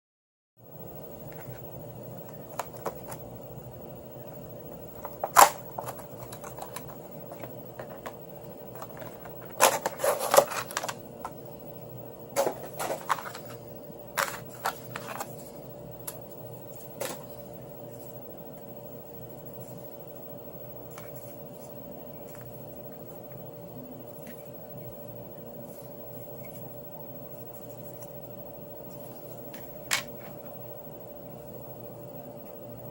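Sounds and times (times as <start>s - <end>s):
steady background hum: 0.6s - 32.9s.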